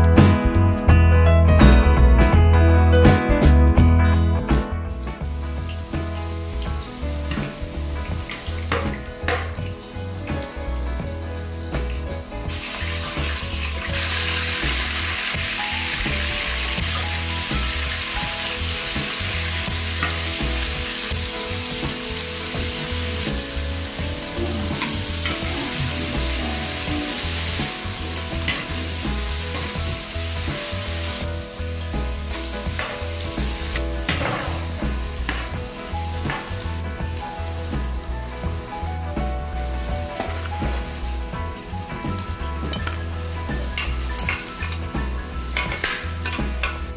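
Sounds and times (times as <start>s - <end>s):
vegetables sizzling in hot oil: 4.9s - 46.9s.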